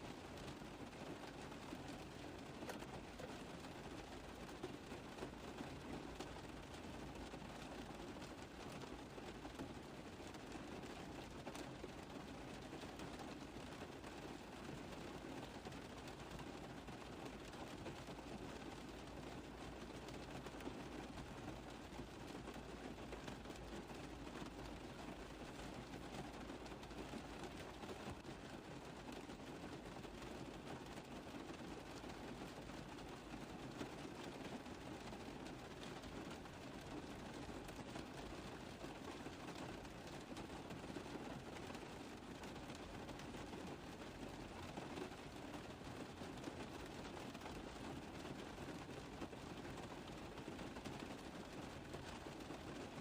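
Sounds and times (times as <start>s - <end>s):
rain tapping on a car roof: 0.0s - 53.0s.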